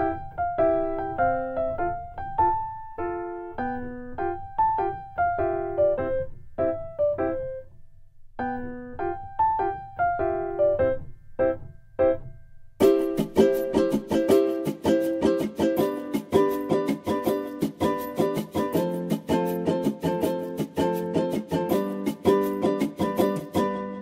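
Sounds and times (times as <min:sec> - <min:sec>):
light piano melody: 0:00.0 - 0:24.0.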